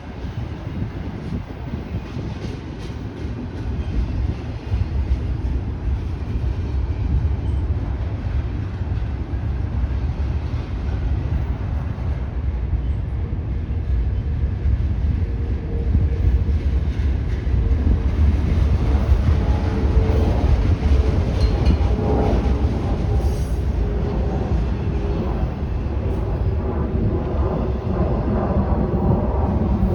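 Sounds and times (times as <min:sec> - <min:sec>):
train rumbling past: 0:00.0 - 0:29.9.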